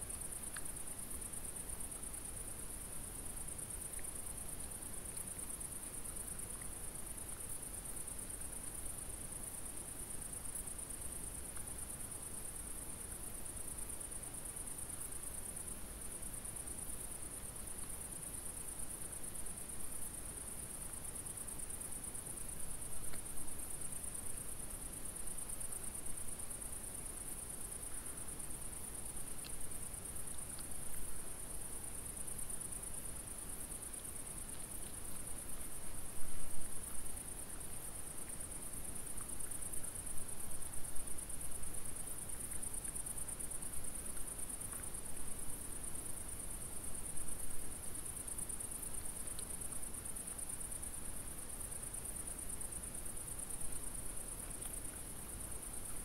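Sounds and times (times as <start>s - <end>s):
crickets chirring: 0.0s - 56.0s
faint ticks: 0.0s - 56.0s.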